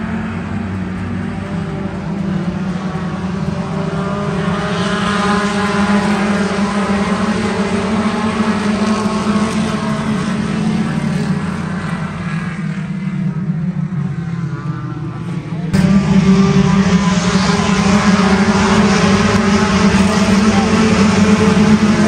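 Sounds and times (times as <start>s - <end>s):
race car engine running: 0.0s - 22.0s.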